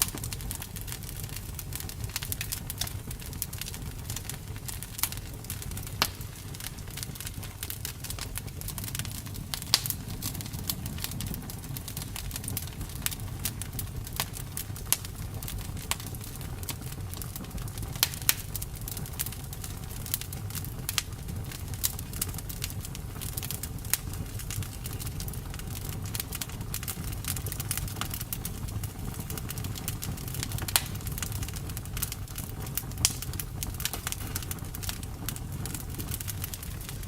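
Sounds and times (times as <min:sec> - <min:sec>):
low rumble of flames: 0:00.0 - 0:37.0
wood crackling and popping: 0:00.0 - 0:37.0.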